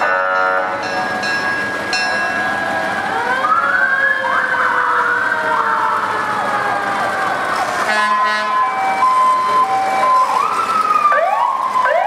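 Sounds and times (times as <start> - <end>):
sirens wailing: 0.0 - 12.0.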